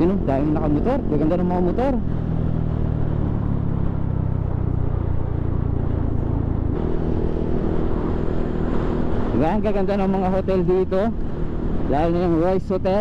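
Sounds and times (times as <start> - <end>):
riding wind noise: 0.0 - 13.0.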